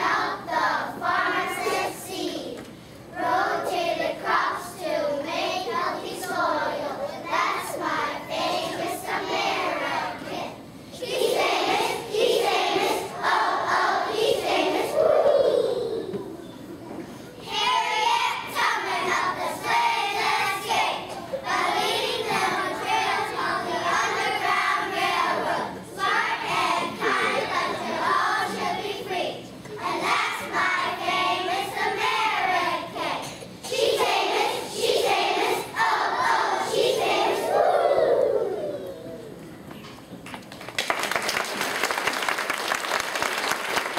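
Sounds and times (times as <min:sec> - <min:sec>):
children singing together: 0:00.0 - 0:16.3, 0:17.4 - 0:38.9.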